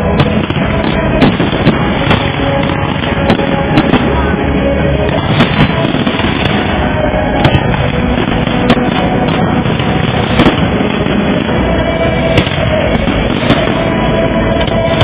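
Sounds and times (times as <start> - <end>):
fireworks shells bursting: 0.0 - 4.3, 4.9 - 15.0
sharp firework cracks: 0.0 - 4.3, 4.9 - 15.0.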